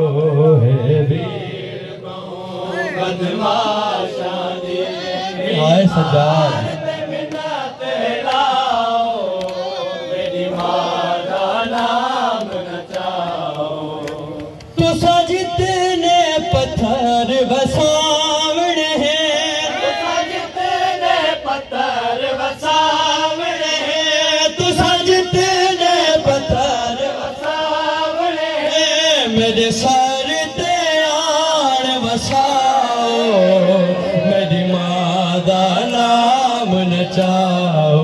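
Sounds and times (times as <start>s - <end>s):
men chanting a lament: 0.0s - 38.0s.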